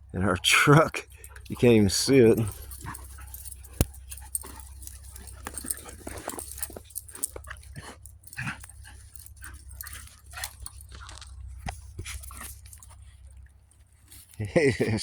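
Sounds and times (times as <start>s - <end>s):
puppies vocalizing: 1.0s - 15.0s.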